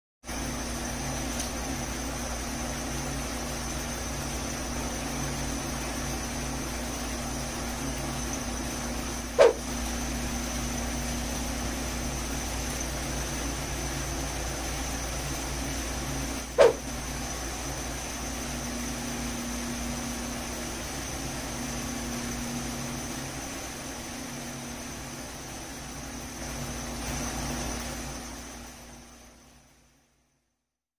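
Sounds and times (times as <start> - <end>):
room hum and hiss: 0.3 - 30.7
faint high whine: 0.3 - 30.8.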